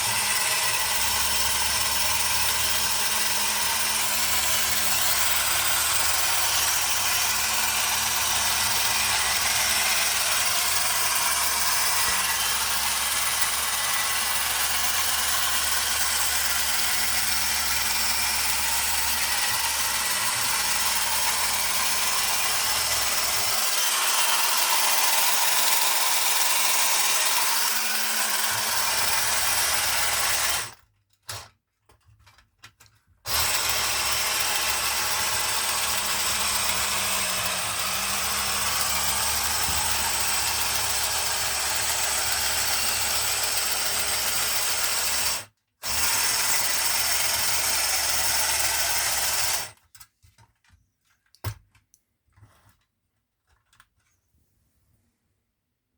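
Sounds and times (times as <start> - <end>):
toy motor and gears whirring: 0.0 - 30.8, 33.3 - 49.8.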